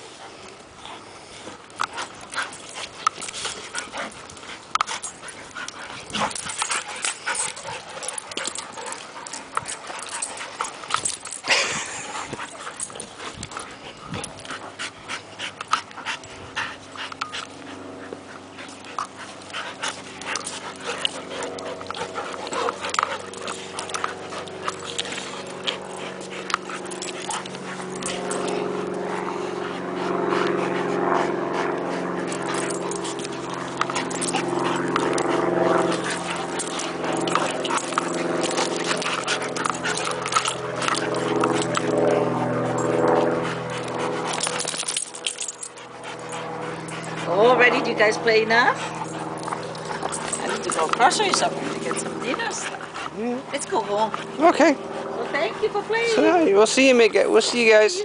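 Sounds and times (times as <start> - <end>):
dogs play-fighting: 0.0 - 58.0
steady low hum: 0.0 - 58.0.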